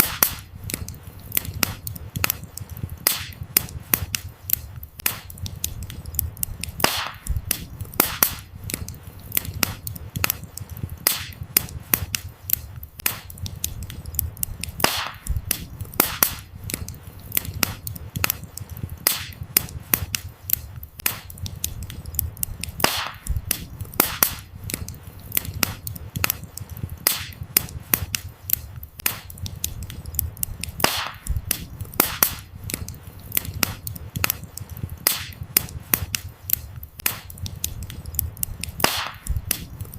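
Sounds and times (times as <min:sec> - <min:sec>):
campfire crackling and popping: 0:00.0 - 0:39.9
low flame rumble: 0:00.0 - 0:39.9.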